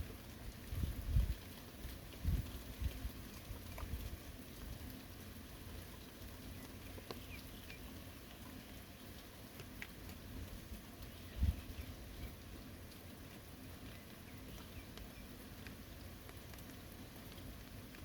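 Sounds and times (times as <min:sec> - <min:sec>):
light rain patter: 0:00.0 - 0:18.0
sharp drip ticks: 0:00.1 - 0:18.0.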